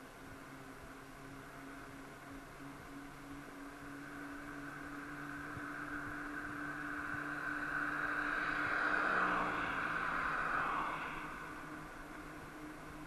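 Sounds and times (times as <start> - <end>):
steady low hum: 0.0 - 13.0
vehicle tyre and road noise: 0.0 - 13.0.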